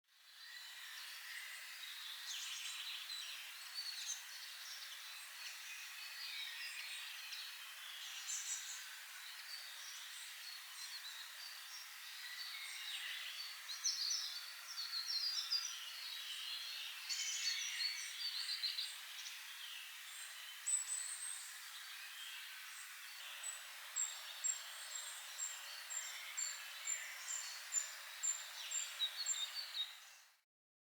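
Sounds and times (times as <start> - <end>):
wild birds chirping and trilling: 0.5 - 30.3.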